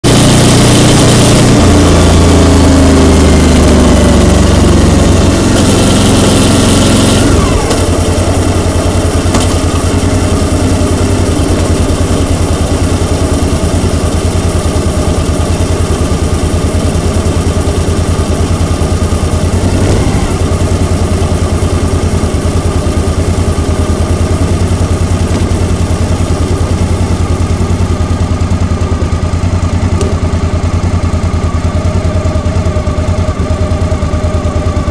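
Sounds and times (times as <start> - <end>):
vehicle engine running: 0.0 - 34.9
road and wind noise: 0.1 - 34.9.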